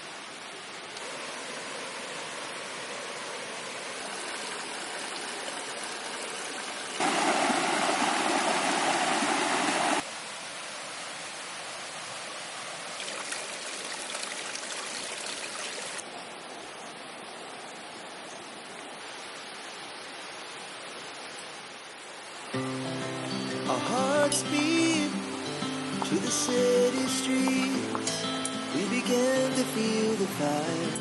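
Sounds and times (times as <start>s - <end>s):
running water rushing: 0.0s - 31.0s.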